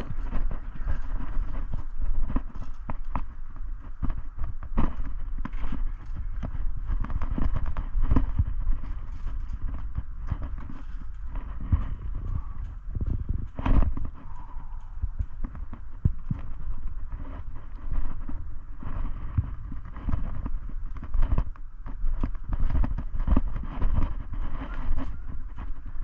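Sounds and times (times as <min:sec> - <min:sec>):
irregular footsteps: 0:00.0 - 0:26.0
steady low rumble: 0:00.0 - 0:26.0.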